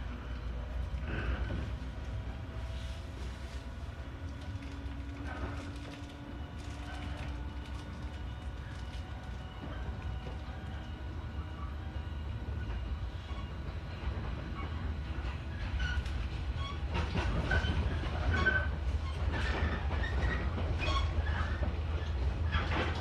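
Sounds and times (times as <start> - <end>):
train motors rumbling: 0.0 - 23.0.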